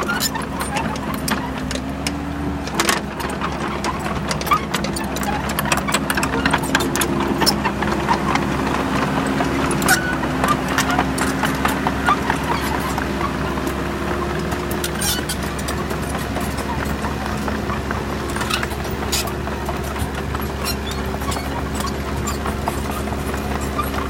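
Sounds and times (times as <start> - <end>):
excavator diesel engine running: 0.0 - 24.0
sharp clicks and knocks: 0.0 - 24.0.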